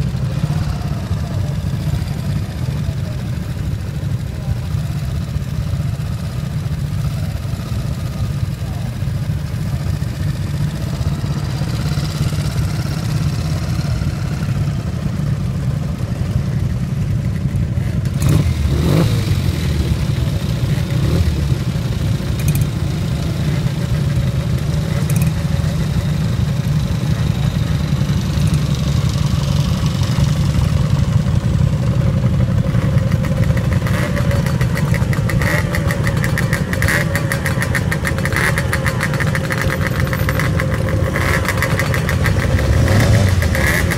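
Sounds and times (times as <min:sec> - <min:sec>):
motorcycle engines idling: 0:00.0 - 0:43.9.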